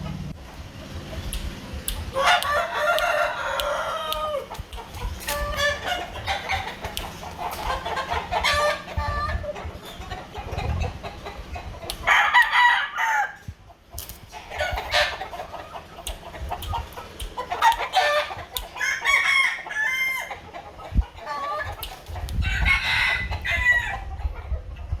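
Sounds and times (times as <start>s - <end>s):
chickens crowing and clucking: 0.0s - 25.0s.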